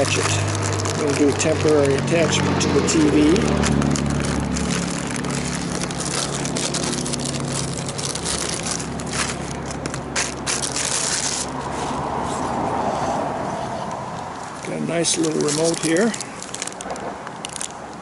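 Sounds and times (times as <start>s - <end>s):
packaging crinkling and rustling: 0.0s - 11.9s, 14.5s - 18.0s.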